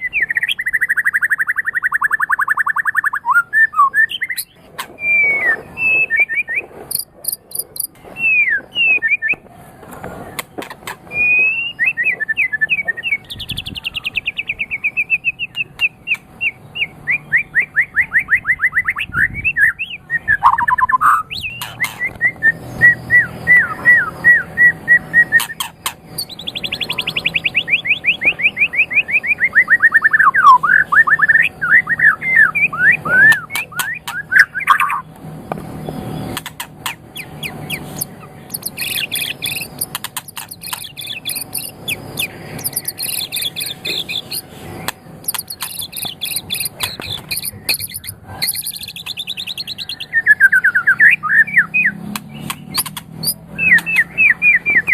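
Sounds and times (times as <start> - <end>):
bird singing whistles and trills: 0.0 - 9.4, 11.1 - 35.1, 37.1 - 54.9.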